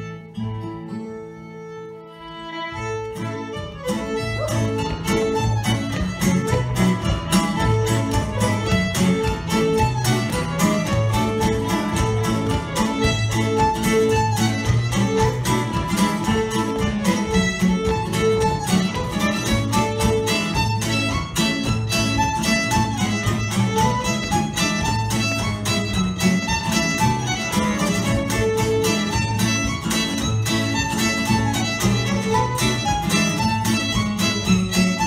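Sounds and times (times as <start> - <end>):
fiddle melody: 0.0 - 35.0
strummed acoustic guitar: 0.0 - 35.0.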